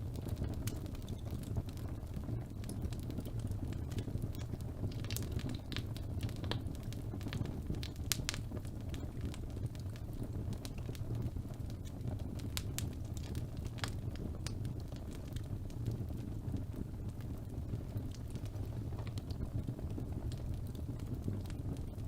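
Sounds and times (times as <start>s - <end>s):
fire rumbling: 0.0s - 22.0s
wood crackling and popping: 0.0s - 22.0s.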